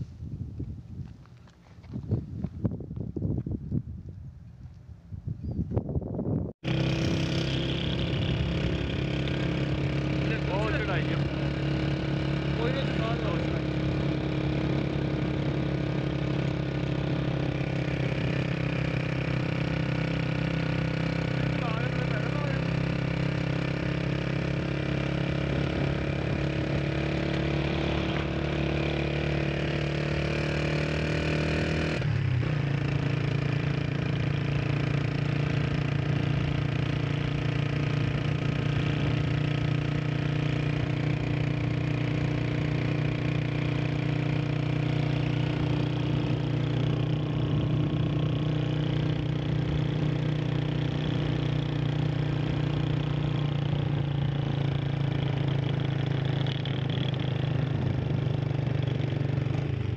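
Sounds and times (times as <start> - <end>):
motorcycle engine running: 5.4 - 59.9.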